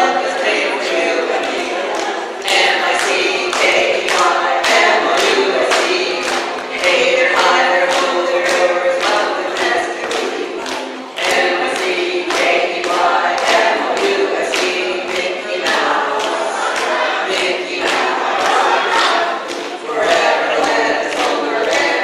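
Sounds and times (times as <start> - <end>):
group singing: 0.0 - 22.0.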